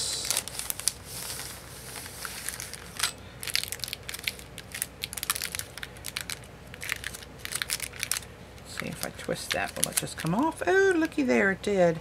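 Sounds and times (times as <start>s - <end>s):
plastic packaging crinkling: 0.2s - 11.2s.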